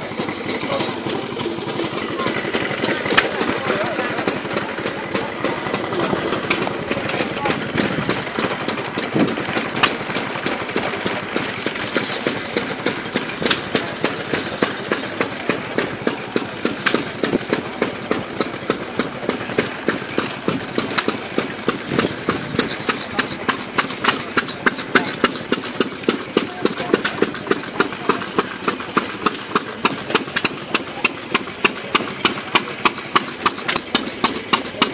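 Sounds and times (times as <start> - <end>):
vintage engine exhaust beat: 0.0 - 34.9.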